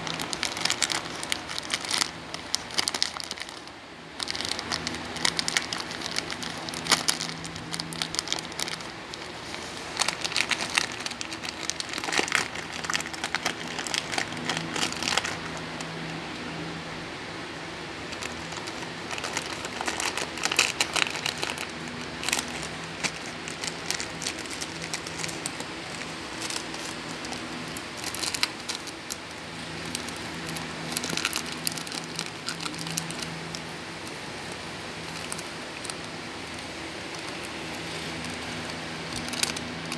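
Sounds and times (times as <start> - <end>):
dog chewing plastic wrapper: 0.0 - 16.2, 18.1 - 39.9
plastic packet crinkling: 0.0 - 16.5, 18.1 - 39.9
steady low hum: 0.0 - 39.9.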